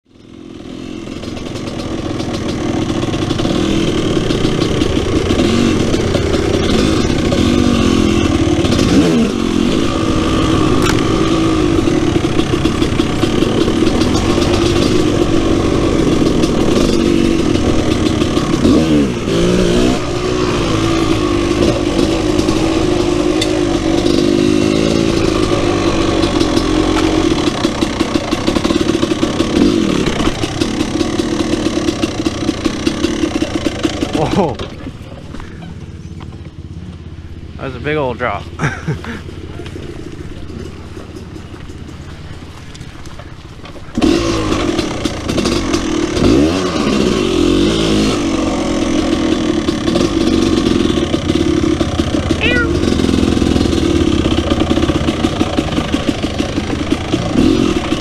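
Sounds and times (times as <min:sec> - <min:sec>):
two-stroke motorcycle engine revving: 0:00.1 - 0:58.0.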